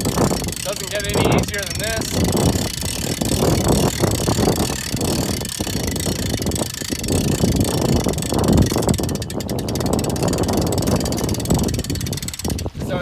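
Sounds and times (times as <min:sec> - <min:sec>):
quick even winch clicks: 0:00.0 - 0:12.8
hand winch cranking: 0:00.0 - 0:13.0.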